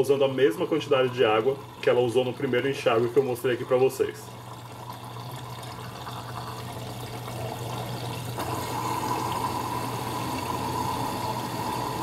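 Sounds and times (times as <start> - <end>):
washing machine low hum: 0.0 - 12.0
water rushing into drum: 0.5 - 12.0.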